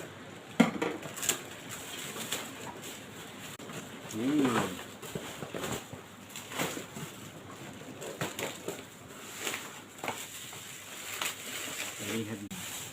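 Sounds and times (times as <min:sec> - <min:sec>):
packaging rustling and knocking: 0:00.5 - 0:12.9.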